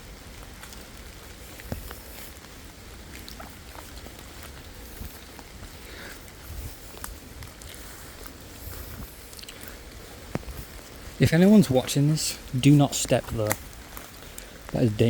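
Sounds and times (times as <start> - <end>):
light rain pattering: 0.0 - 15.0.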